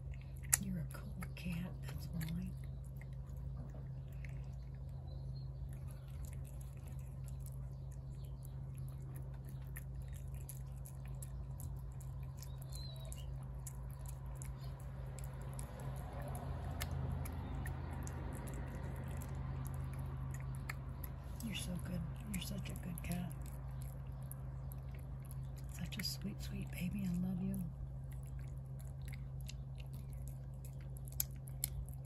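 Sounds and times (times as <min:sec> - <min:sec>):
cat chewing wet food: 0:00.0 - 0:32.0
steady low hum: 0:00.0 - 0:32.0.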